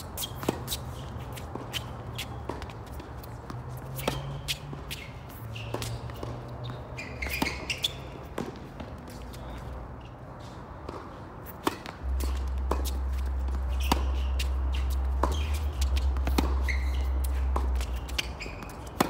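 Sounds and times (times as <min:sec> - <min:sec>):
footsteps on hard court: 0:00.0 - 0:19.0
shoe squeaks: 0:00.0 - 0:19.0
tennis ball bouncing: 0:00.0 - 0:19.0.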